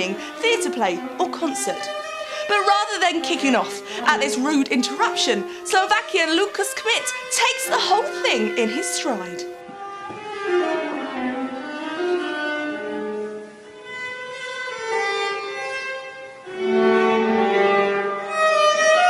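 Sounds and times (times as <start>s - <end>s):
violin bowed notes: 0.0s - 19.0s.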